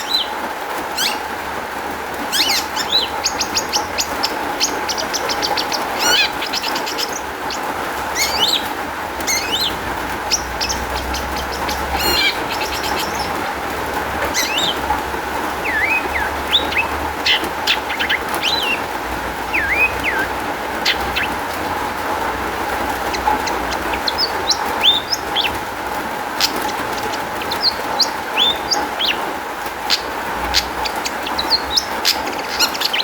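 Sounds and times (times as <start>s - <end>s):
bird singing trills and whistles: 2.3s - 13.6s, 14.3s - 14.9s, 15.6s - 25.7s, 26.4s - 29.3s, 29.9s - 33.0s.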